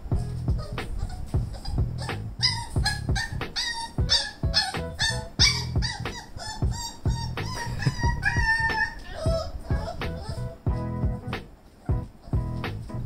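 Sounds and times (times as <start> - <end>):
background music with beat: 0.0 - 8.4, 9.7 - 13.0
puppy whining: 0.0 - 12.6.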